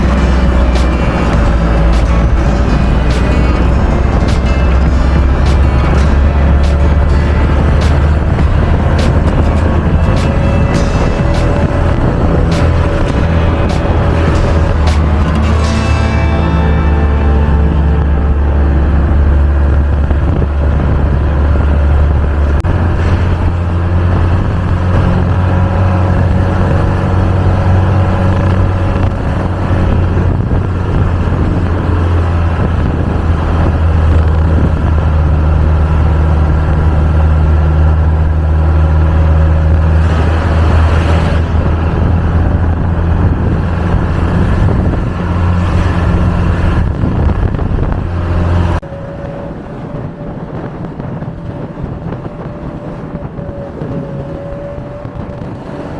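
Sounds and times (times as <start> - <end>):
minibus engine droning: 0.0 - 55.9.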